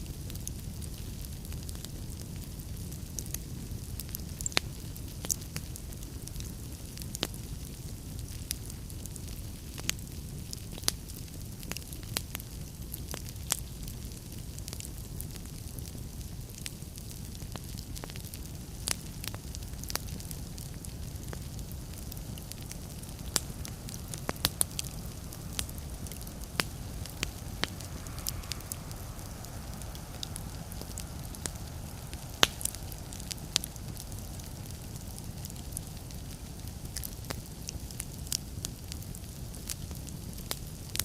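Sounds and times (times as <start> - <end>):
fire crackles and pops: 0.0 - 41.0
fire low rumble: 0.0 - 41.0.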